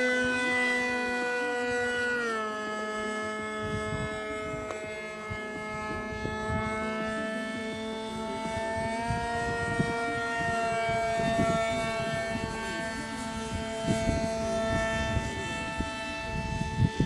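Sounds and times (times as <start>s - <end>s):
electric motor whine: 0.0s - 17.0s
low rumbles: 0.1s - 17.0s.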